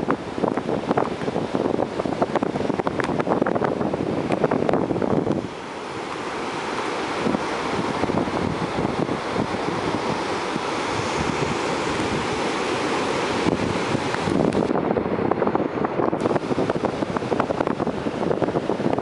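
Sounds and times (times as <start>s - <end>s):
ocean surf: 0.0s - 19.0s
wind buffeting microphone: 0.0s - 19.0s.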